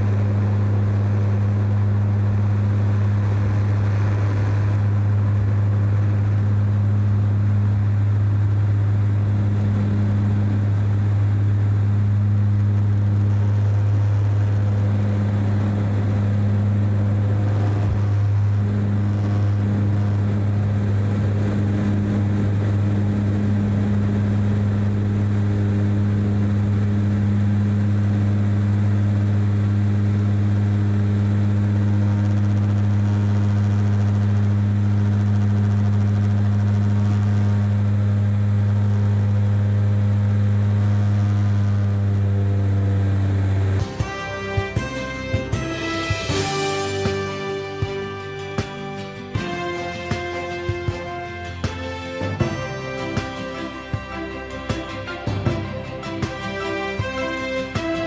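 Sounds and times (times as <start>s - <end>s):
higher engine tone: 0.0s - 58.0s
low propeller drone: 0.0s - 58.0s.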